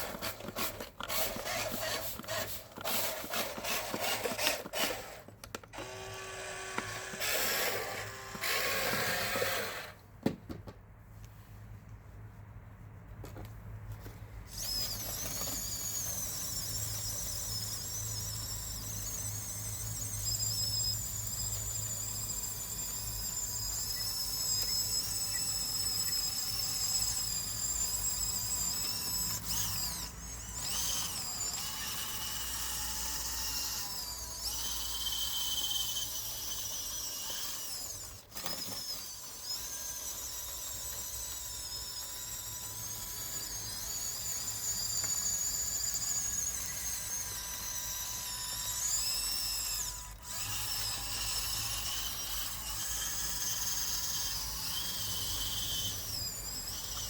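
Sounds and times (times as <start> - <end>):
electric motors whining: 0.0 - 10.0, 14.5 - 57.0.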